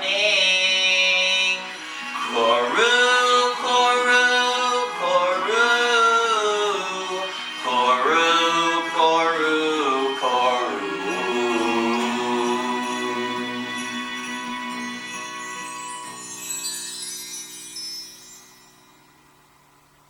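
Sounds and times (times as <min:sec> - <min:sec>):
person singing: 0:00.0 - 0:16.5
instrumental backing music: 0:00.0 - 0:19.8.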